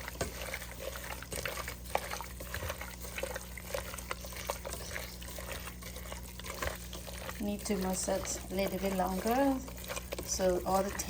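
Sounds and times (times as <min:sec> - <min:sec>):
steady low hum: 0:00.0 - 0:11.0
wet squelching of chicken mixed by hand: 0:00.0 - 0:11.0.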